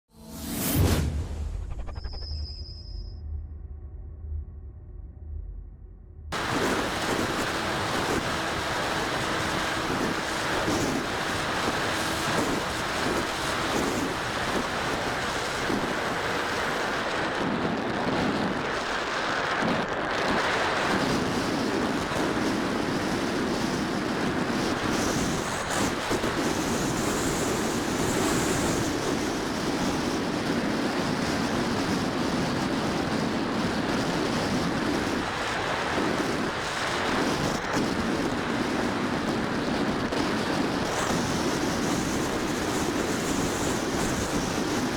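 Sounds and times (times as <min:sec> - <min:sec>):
strong wind buffeting microphone: 0:06.3 - 0:44.9.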